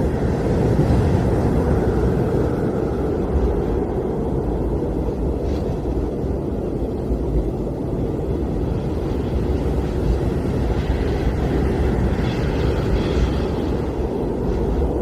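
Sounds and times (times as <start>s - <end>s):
blizzard wind rushing: 0.0s - 15.0s
faint high wind whistle: 0.0s - 15.0s.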